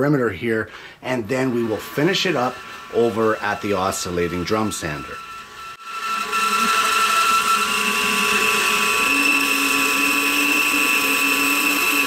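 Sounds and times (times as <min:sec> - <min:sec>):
bandsaw cutting wood: 0:01.1 - 0:12.0.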